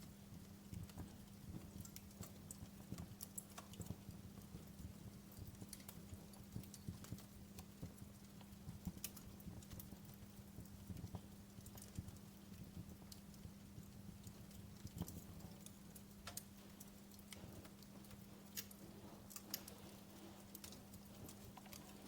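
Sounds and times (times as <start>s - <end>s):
steady low hum: 0.0s - 22.0s
wood fire crackling: 0.0s - 22.0s.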